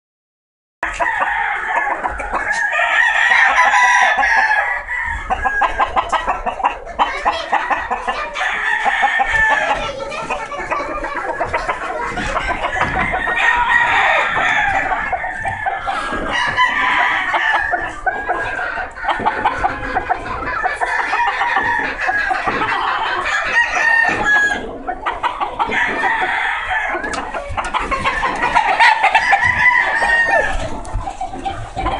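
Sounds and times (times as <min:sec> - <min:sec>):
roosters crowing and clucking: 0:00.8 - 0:31.9.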